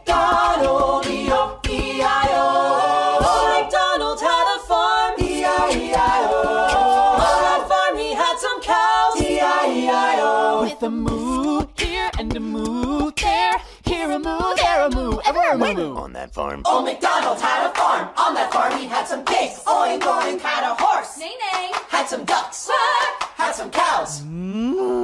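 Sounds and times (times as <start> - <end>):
voices singing unaccompanied: 0.0 - 15.8, 16.6 - 24.6.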